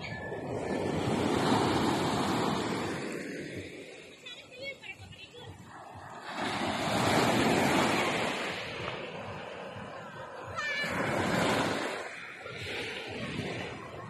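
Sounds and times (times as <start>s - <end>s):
waves washing in: 0.0s - 14.0s.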